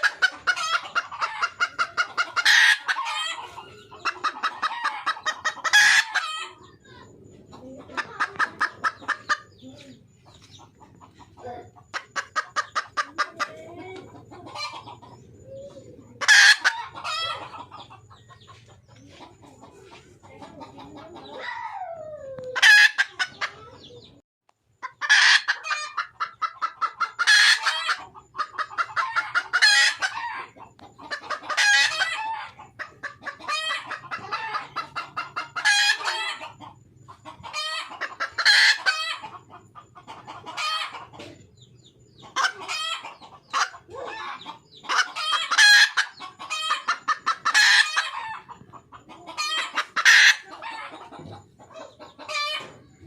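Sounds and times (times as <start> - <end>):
hen clucking and cackling: 0.0 - 53.0.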